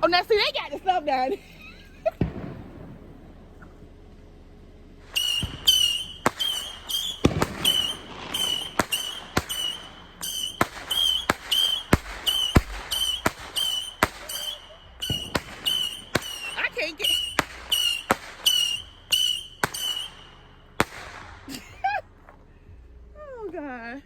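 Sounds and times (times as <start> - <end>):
fireworks whistling: 0.0 - 3.9, 5.0 - 23.1
fireworks bangs: 0.0 - 4.1, 5.0 - 22.4.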